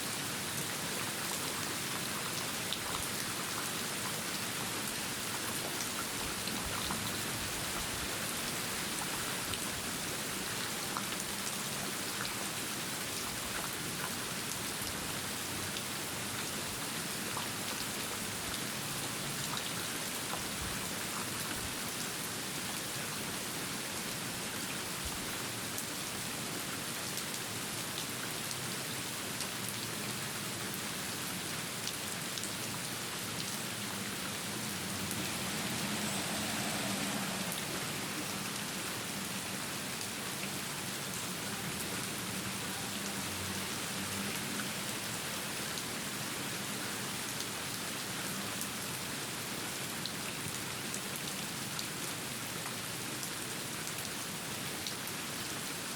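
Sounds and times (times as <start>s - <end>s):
steady rain hiss: 0.1s - 55.9s.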